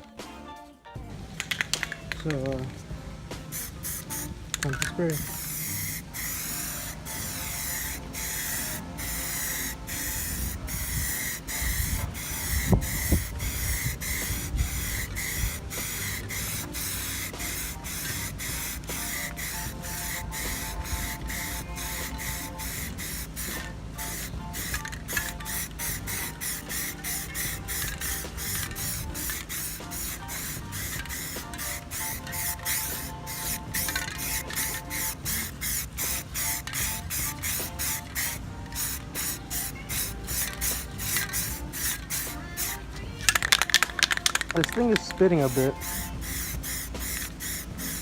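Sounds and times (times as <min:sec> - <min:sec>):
aerosol can spraying: 0:01.4 - 0:48.0.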